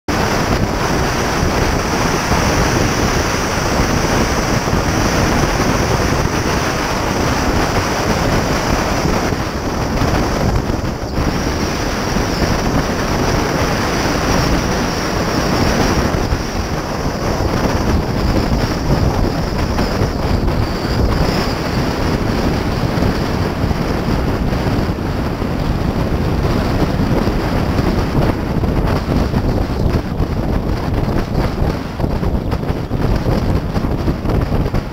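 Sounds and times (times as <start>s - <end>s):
tyre and road noise: 0.1s - 34.9s
wind buffeting camera: 0.1s - 34.9s.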